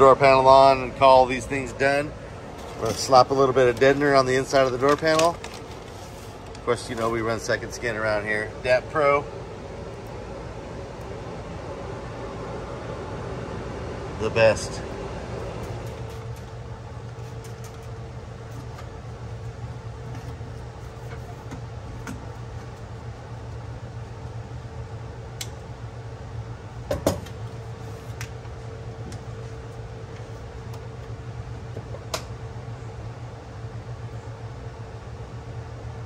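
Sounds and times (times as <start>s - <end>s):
shop background hum: 0.0s - 36.0s.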